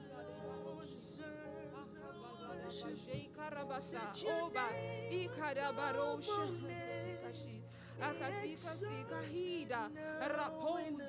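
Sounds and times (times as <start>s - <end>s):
person singing worship melody: 0.0s - 11.0s.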